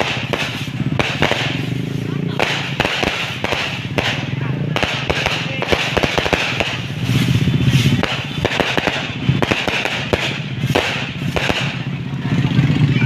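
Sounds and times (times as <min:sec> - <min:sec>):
firecrackers popping: 0:00.0 - 0:12.5
low rumble: 0:00.0 - 0:13.0.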